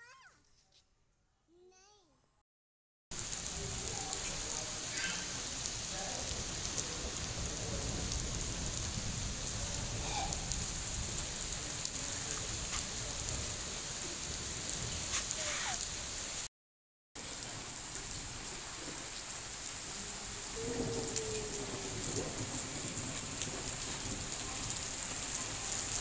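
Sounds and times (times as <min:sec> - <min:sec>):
rain on paved yard: 0:03.1 - 0:16.5, 0:17.2 - 0:26.0.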